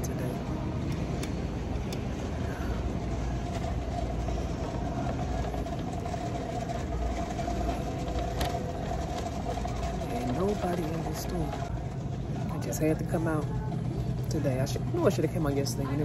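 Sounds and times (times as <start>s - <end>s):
low rumbling noise: 0.0s - 16.0s
mid-pitched hum: 0.0s - 16.0s.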